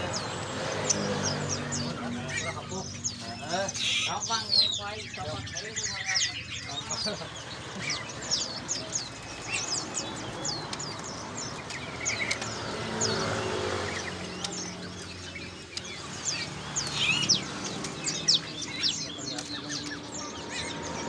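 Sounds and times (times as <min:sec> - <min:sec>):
caged birds chirping: 0:00.0 - 0:21.0.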